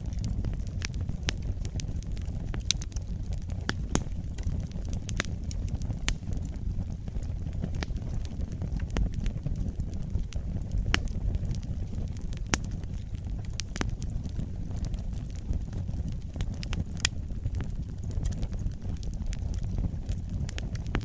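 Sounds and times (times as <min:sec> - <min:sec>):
fire crackling and popping: 0:00.0 - 0:21.0
rumble of flames: 0:00.0 - 0:21.0.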